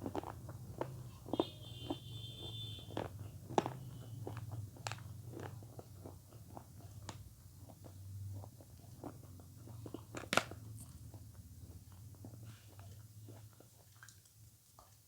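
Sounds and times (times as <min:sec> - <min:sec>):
mouth chewing food: 0:00.0 - 0:15.0.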